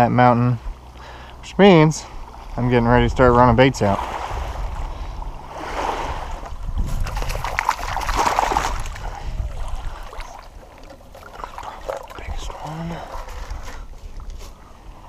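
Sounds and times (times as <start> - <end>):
water splashing and sloshing: 0.2 - 15.0.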